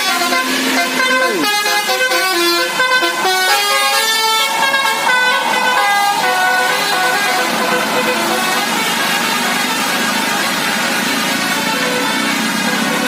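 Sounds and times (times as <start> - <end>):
musical car horns playing melodies: 0.0 - 13.0.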